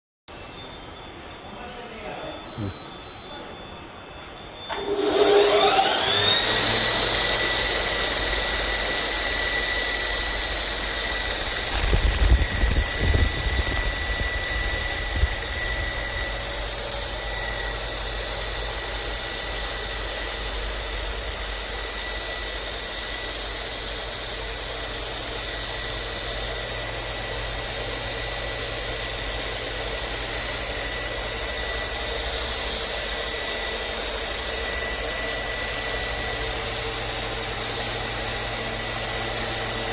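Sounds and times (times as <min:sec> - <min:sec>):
belt grinder motor whine: 0:02.6 - 0:39.9.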